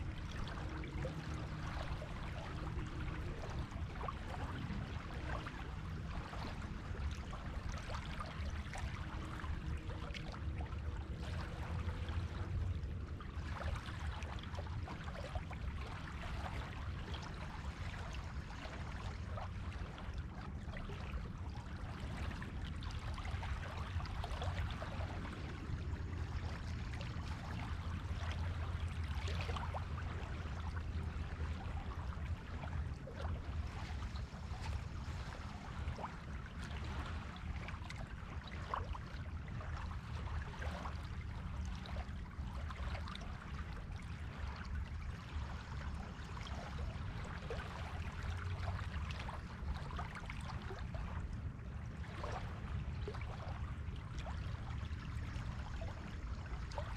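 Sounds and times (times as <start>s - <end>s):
small waves lapping on shore: 0.0s - 56.9s.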